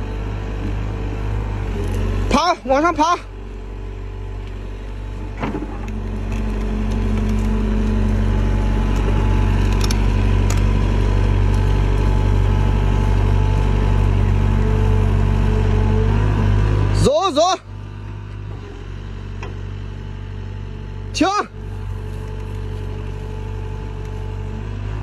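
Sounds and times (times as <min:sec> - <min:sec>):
excavator diesel engine under load: 0:00.0 - 0:25.0.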